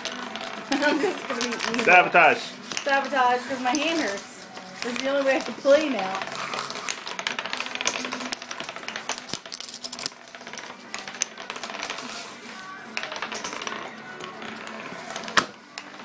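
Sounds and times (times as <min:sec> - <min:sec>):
wooden discs spinning and clattering: 0:00.0 - 0:16.0.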